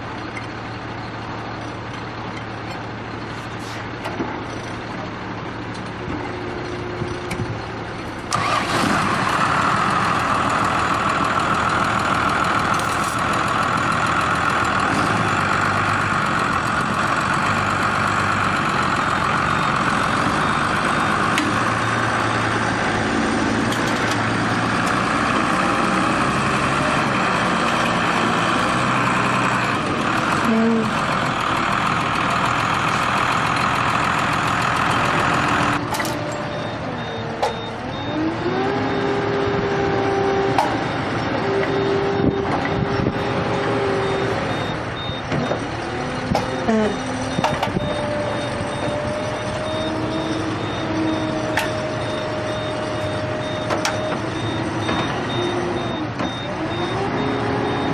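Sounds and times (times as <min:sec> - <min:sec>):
heavy vehicle engines running: 0:00.0 - 0:57.9
engine revving: 0:08.3 - 0:36.8, 0:37.6 - 0:57.9.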